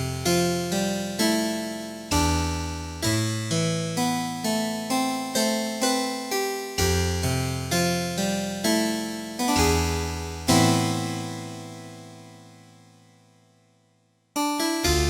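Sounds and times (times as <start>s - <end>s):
electronic keyboard piano melody: 0.0s - 13.3s, 14.4s - 15.0s.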